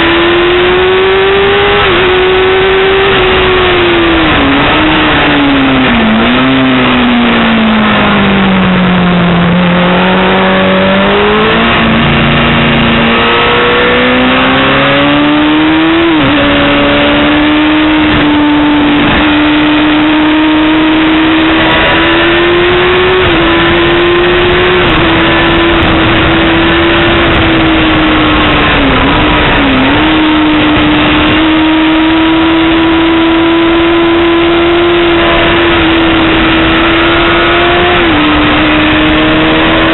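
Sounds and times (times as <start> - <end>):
motorcycle engine at high revs: 0.0 - 39.9
wind rush: 0.0 - 39.9.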